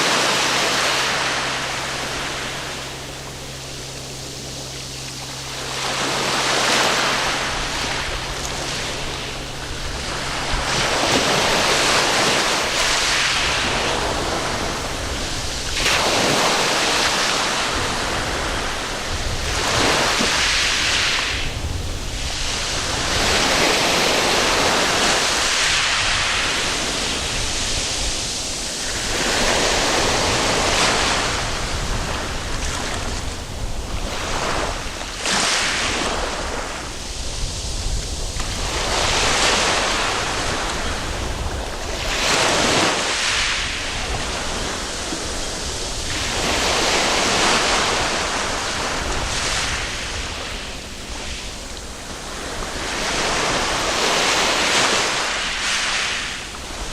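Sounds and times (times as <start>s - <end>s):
waves breaking on a beach: 0.0s - 56.9s.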